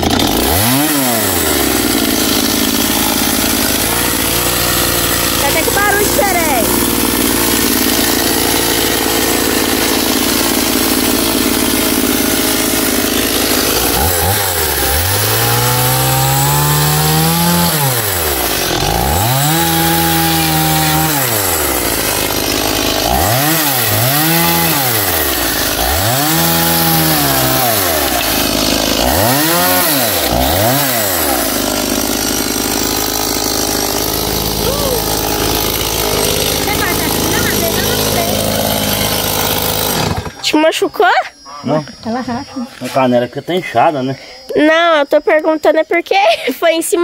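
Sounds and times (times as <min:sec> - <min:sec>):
chainsaw engine revving: 0:00.0 - 0:40.8.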